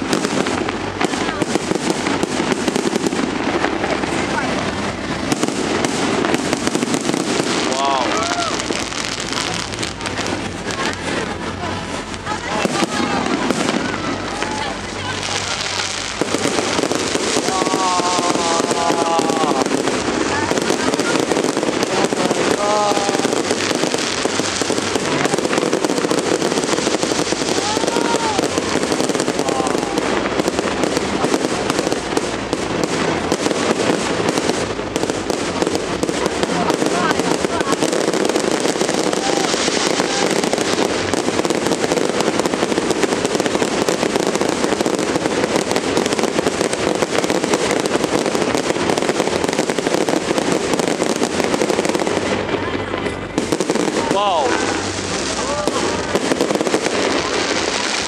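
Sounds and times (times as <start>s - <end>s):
fireworks crackling: 0.0s - 58.0s
large crowd noise: 0.0s - 58.0s.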